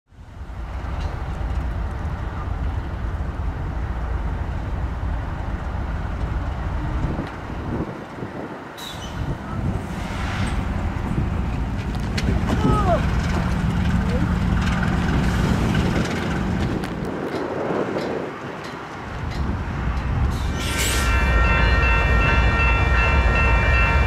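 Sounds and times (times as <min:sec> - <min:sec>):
locomotive engines rumbling: 0:00.2 - 0:24.0.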